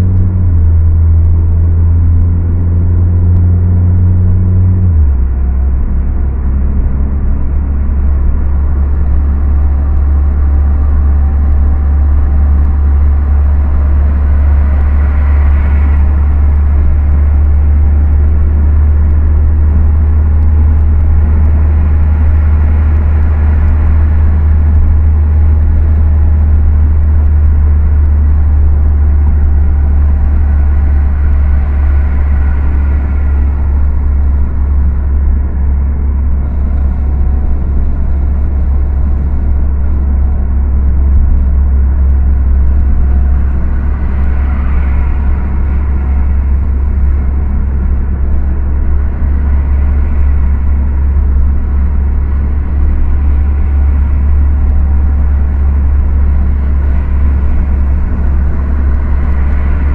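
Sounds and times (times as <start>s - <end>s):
car engine: 0.0s - 59.9s
road noise: 0.0s - 59.9s.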